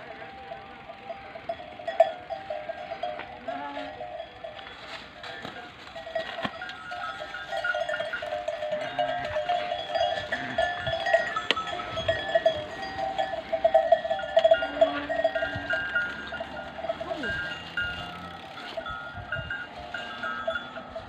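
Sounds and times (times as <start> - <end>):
livestock bells clanking: 0.0 - 21.0.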